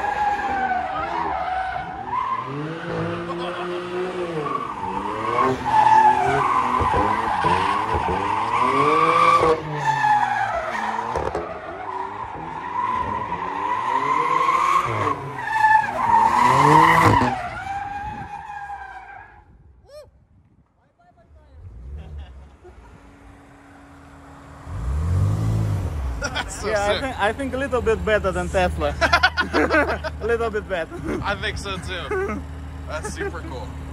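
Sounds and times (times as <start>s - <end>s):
car engine revving: 0.0s - 18.8s, 21.5s - 33.9s.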